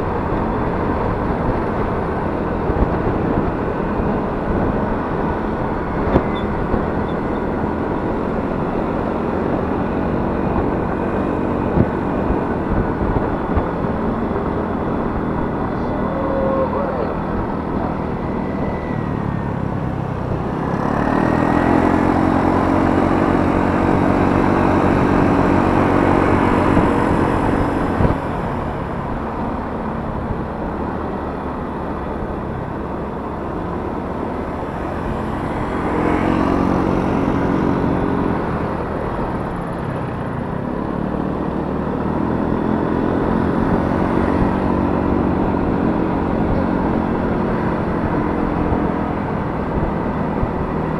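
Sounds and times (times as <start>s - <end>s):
scooter engine running: 0.0s - 50.9s
wind and road noise: 0.0s - 50.9s.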